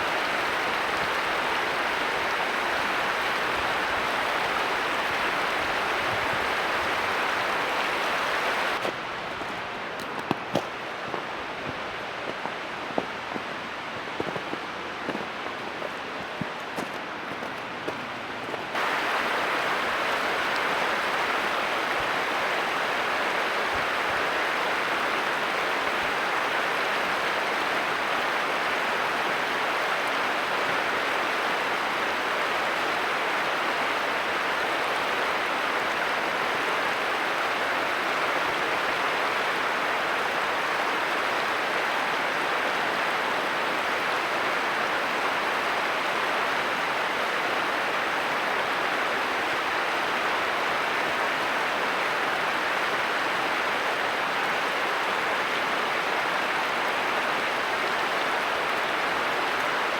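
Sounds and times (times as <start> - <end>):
stream water rushing: 0.0 - 16.9, 18.7 - 59.9.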